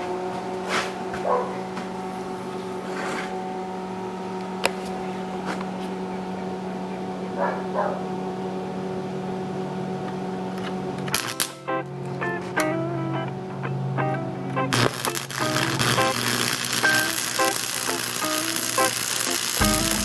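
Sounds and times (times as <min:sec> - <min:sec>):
steady motor hum: 0:00.0 - 0:11.2, 0:15.1 - 0:20.0.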